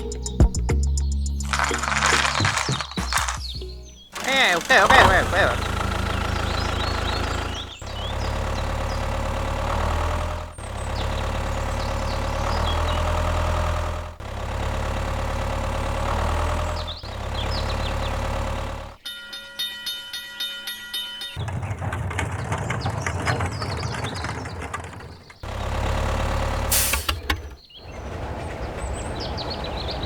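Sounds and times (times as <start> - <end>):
tractor engine idling: 1.3 - 30.0.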